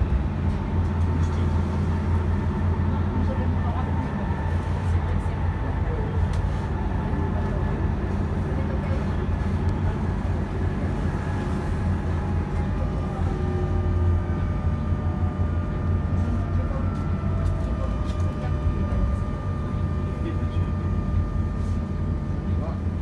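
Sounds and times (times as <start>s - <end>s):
tram running: 0.0s - 23.0s.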